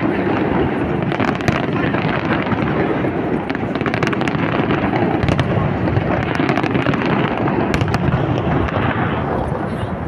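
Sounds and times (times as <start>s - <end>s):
fireworks cracking: 0.0s - 10.0s
fireworks rumble: 0.0s - 10.0s.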